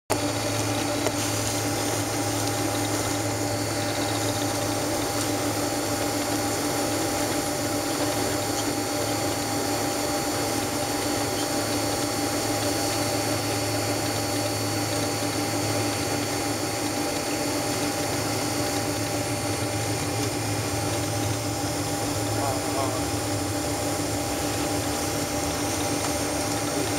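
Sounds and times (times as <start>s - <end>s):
airplane cabin drone: 0.1s - 26.9s.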